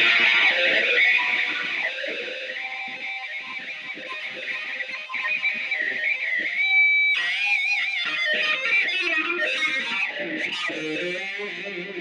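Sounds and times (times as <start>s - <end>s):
electric guitar solo: 0.0s - 12.0s.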